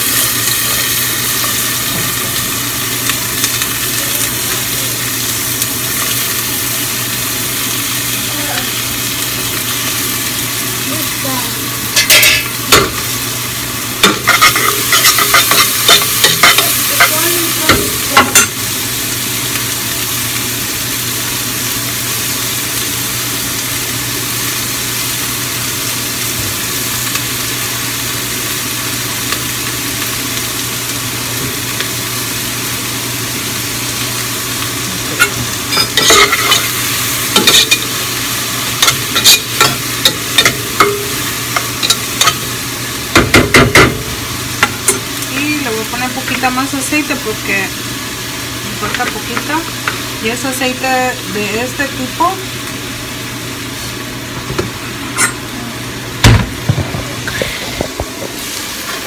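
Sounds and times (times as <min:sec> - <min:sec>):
vegetables sizzling in a pot: 0:00.0 - 0:59.0.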